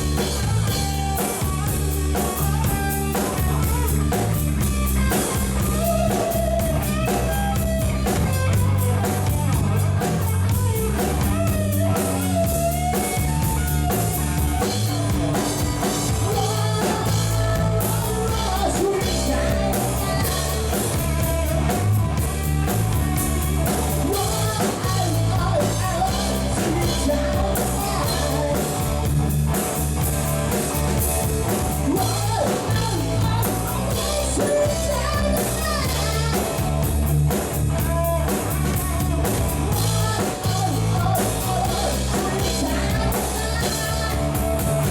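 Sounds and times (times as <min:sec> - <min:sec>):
rock music with singing: 0:00.0 - 0:44.9.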